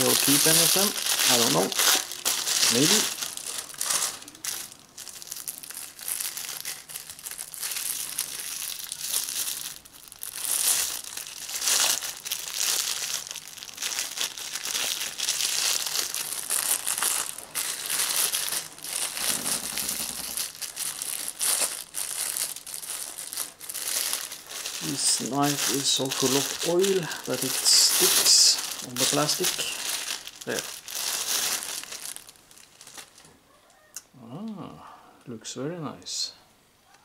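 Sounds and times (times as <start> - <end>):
plastic wrapping crinkling: 0.0 - 33.8.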